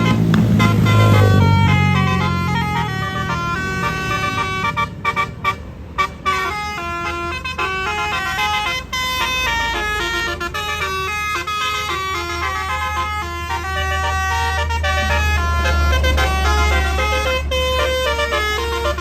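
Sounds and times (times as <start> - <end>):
bus engine humming: 0.0 - 19.0
musical air horn tune: 0.0 - 19.0.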